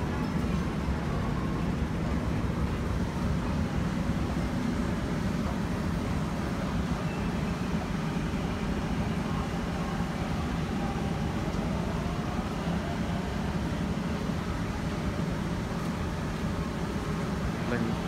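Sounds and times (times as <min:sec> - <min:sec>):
faint train whine: 0:00.0 - 0:18.0
train rumble: 0:00.0 - 0:18.0.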